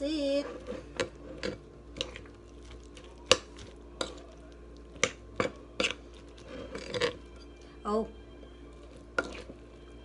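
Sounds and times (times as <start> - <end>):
spoon stirring wet batter: 0.1 - 7.7, 8.4 - 10.0.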